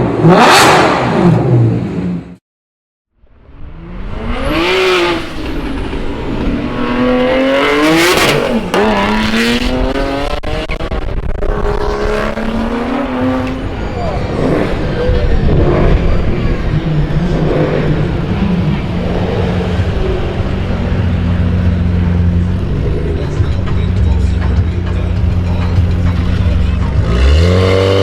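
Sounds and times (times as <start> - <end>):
car engine accelerating hard: 3.4 - 28.0.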